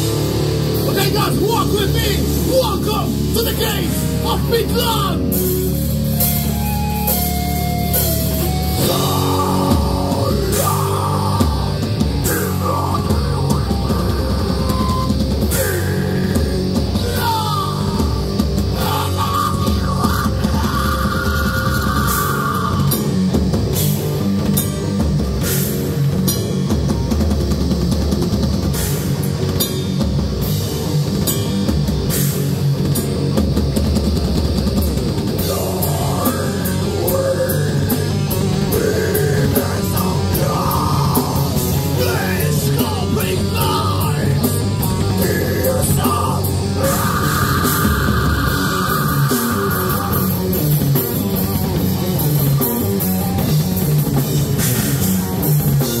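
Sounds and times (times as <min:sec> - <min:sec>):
bass guitar: 0:00.0 - 0:56.0
distorted electric guitars: 0:00.0 - 0:56.0
drum kit: 0:00.0 - 0:56.0.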